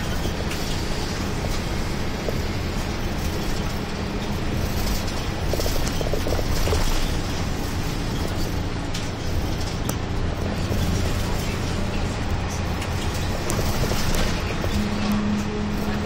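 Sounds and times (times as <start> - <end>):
bus engine hum: 0.0 - 16.0
tyre and road noise: 0.0 - 16.0.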